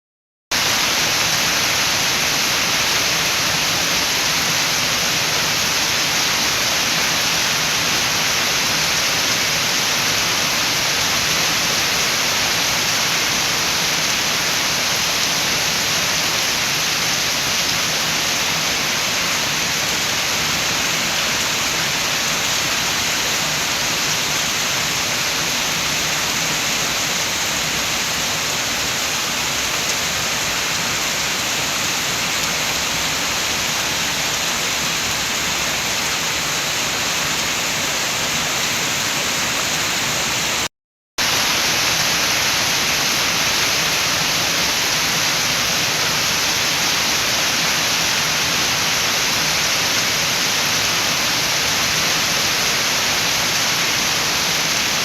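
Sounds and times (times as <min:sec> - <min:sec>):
rain falling: 0:00.5 - 0:55.0
wind: 0:00.5 - 0:55.0.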